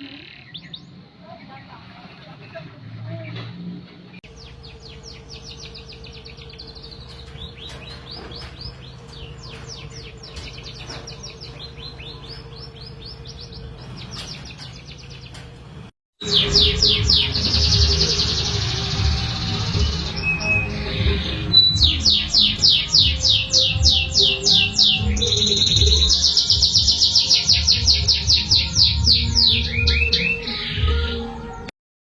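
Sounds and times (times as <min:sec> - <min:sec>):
noisy background: 0:03.8 - 0:31.7
canary singing: 0:04.2 - 0:31.7.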